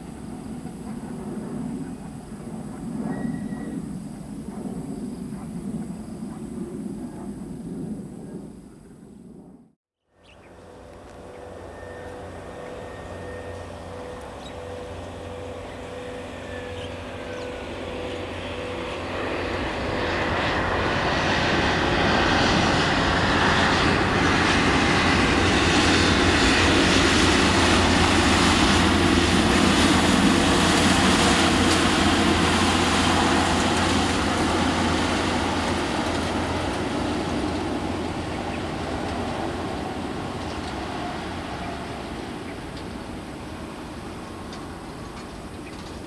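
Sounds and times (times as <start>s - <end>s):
jet engines roaring: 0.0s - 9.6s, 10.5s - 46.0s.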